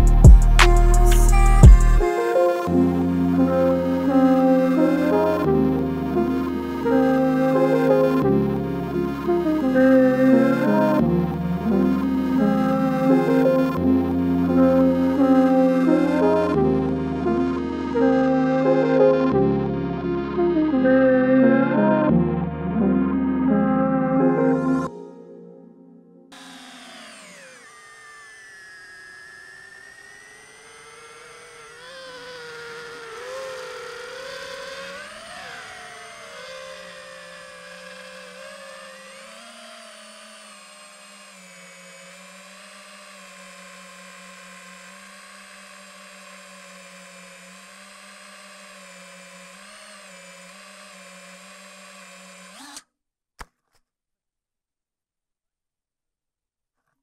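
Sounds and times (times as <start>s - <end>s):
drone motors whining: 0.0s - 25.2s, 26.3s - 52.8s.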